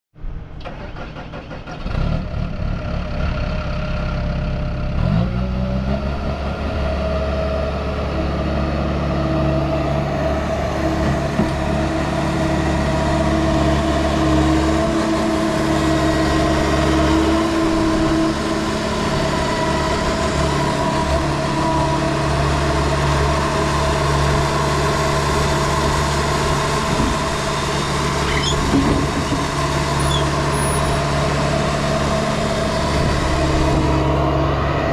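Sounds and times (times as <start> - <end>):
diesel engine starting and running: 0.2 - 34.9.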